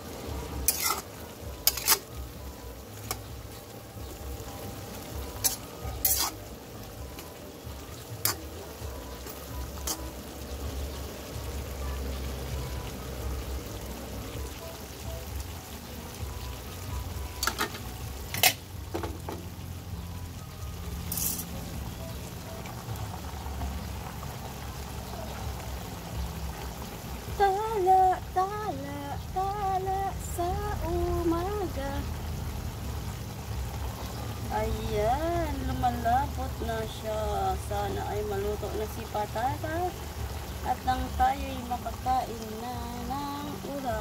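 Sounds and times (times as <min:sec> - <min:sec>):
sauce simmering: 0:00.0 - 0:44.0.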